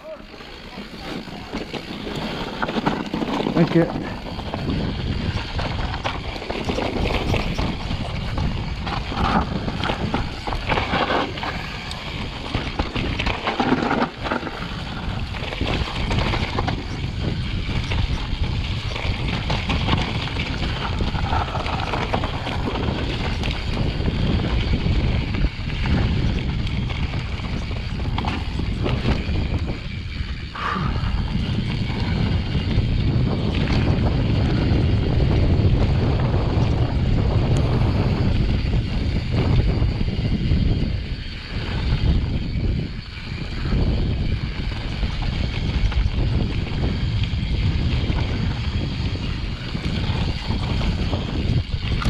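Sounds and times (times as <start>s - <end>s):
bike rattling: 0.0s - 52.0s
tyres running over dirt and rocks: 0.0s - 52.0s
wind rumbling on microphone: 0.0s - 52.0s.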